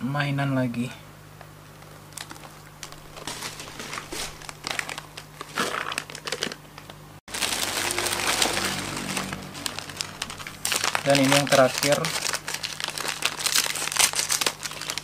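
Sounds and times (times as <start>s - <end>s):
plastic snack packet crinkling: 1.8s - 15.0s.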